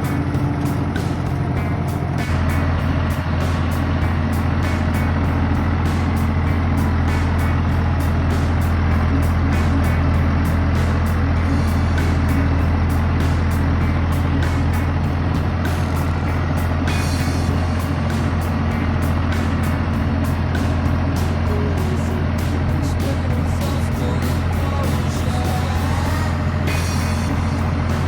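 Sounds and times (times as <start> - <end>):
background music with beat: 0.0 - 28.0
tractor engine running: 0.0 - 28.0.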